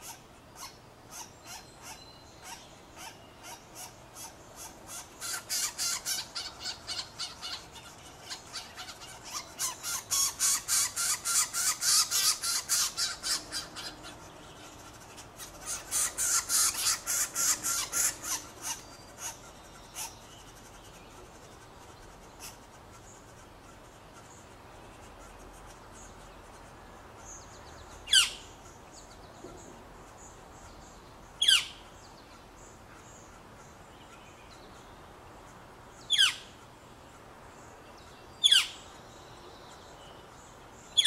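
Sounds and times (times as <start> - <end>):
nestlings begging calls: 0.0 - 29.2, 30.0 - 34.6, 35.4 - 36.8, 38.0 - 39.0, 40.3 - 41.0.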